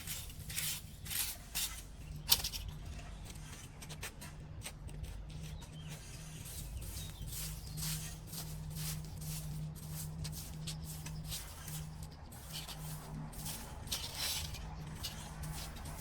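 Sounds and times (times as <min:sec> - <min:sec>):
debris scraping and rustling: 0:00.0 - 0:02.9, 0:06.0 - 0:16.0.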